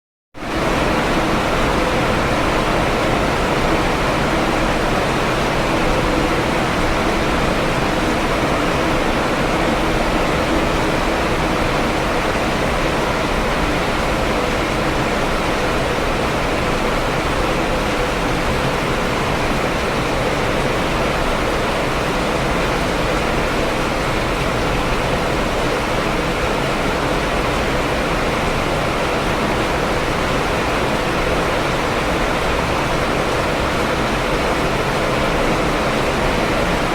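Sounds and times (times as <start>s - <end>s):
heavy rain: 0.4s - 36.9s.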